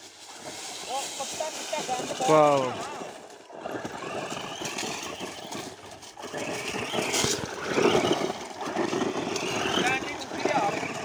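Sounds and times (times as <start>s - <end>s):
tyres crunching leaves and dirt: 0.0s - 11.0s
toy truck motor whining: 1.9s - 11.0s.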